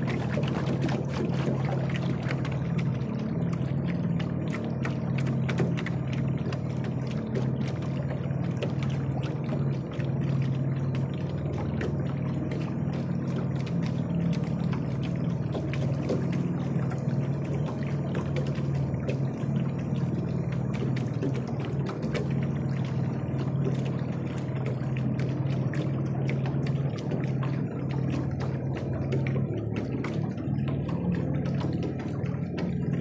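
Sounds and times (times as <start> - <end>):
boat motor humming: 0.0 - 33.0
water lapping against hull: 0.0 - 33.0.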